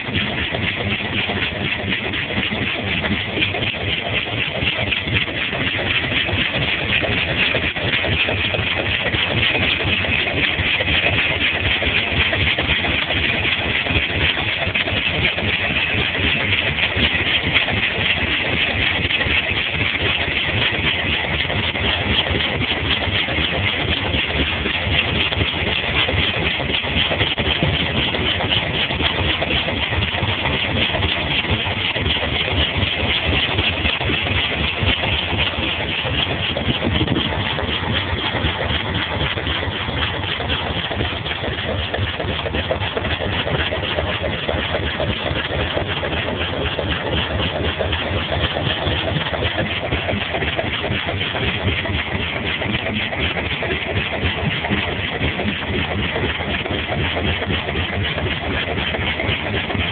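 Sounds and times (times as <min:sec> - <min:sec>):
car engine idling: 0:00.0 - 0:59.9
engine rod knock: 0:00.0 - 0:59.9.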